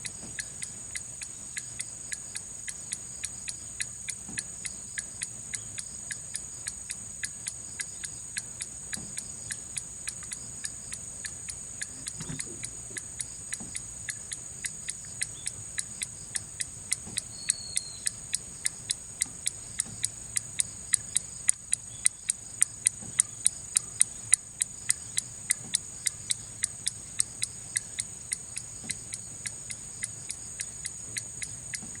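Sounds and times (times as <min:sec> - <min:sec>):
pendulum clock ticking: 0:00.3 - 0:32.0.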